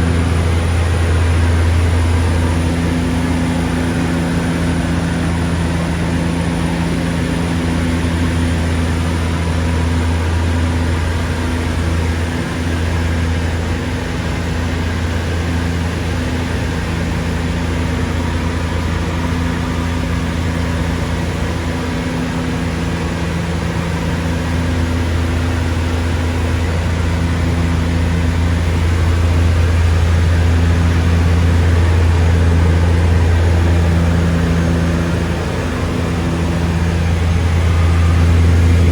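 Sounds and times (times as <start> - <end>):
propeller engines droning: 0.0 - 38.9.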